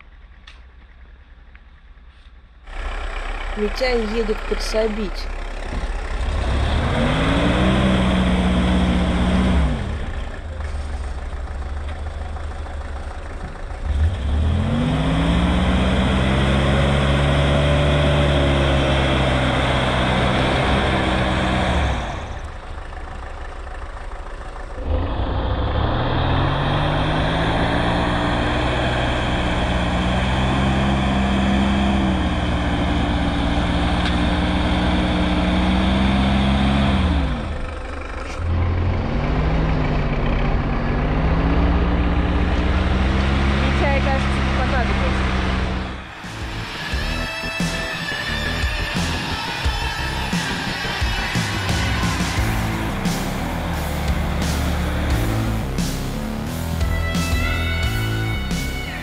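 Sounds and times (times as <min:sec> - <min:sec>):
truck engine revving: 0:02.6 - 0:59.0.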